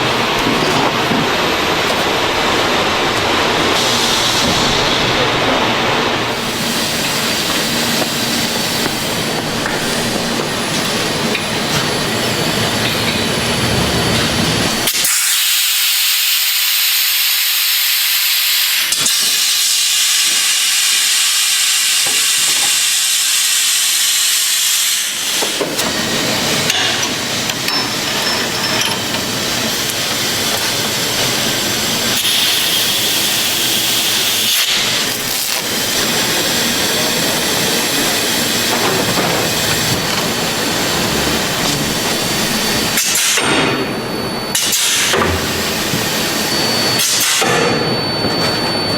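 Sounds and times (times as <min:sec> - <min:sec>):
factory machinery running: 0:00.0 - 0:48.9.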